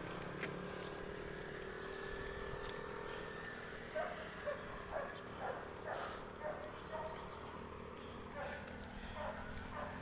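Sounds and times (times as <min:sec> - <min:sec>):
high insect drone: 0:00.0 - 0:10.0
insects chirping: 0:00.2 - 0:10.0.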